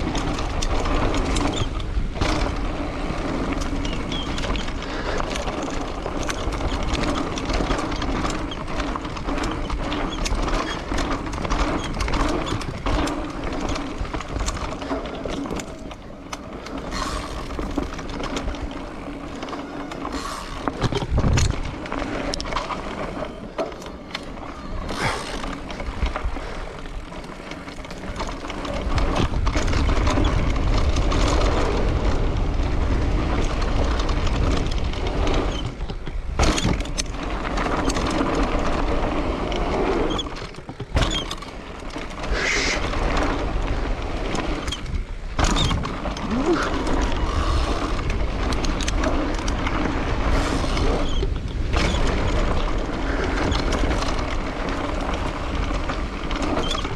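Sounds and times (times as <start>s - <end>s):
road noise: 0.0s - 36.4s, 37.0s - 56.9s
wind buffeting microphone: 0.0s - 41.2s, 41.8s - 56.9s.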